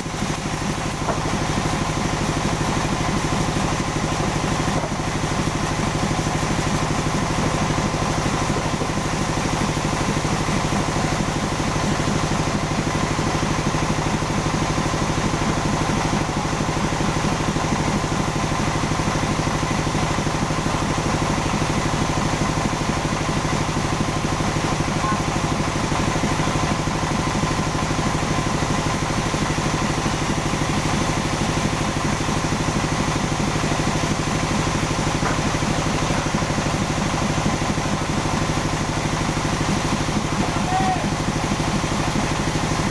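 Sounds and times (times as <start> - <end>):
sawmill machinery humming: 0.0 - 42.9.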